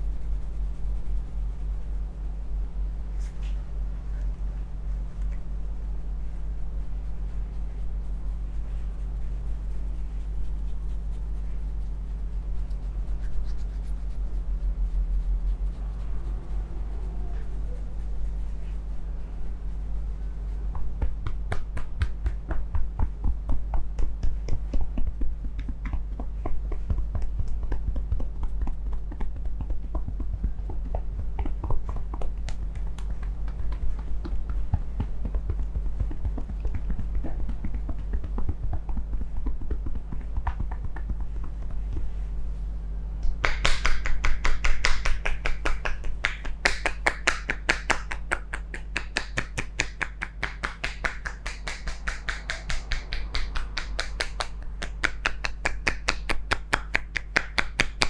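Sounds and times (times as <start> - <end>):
hands tapping and rubbing scalp: 0.0 - 2.2, 5.2 - 16.3, 17.3 - 42.4, 43.2 - 58.0
low steady hum: 0.0 - 58.0.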